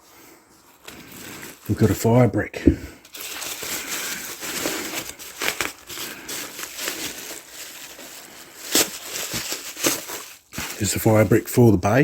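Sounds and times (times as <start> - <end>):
packaging crinkling and rustling: 0.5 - 2.3, 3.0 - 12.0.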